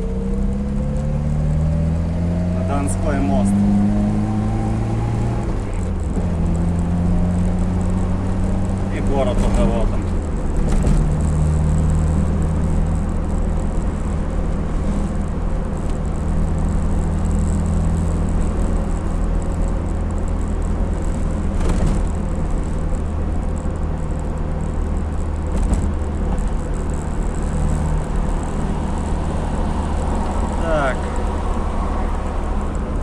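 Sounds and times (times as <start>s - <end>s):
van engine and road noise: 0.0s - 33.0s.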